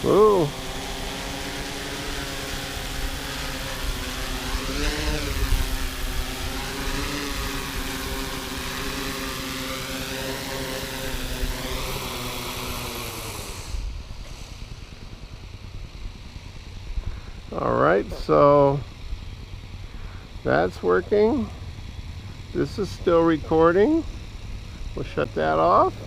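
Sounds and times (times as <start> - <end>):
quadcopter propellers whirring: 0.0 - 26.0.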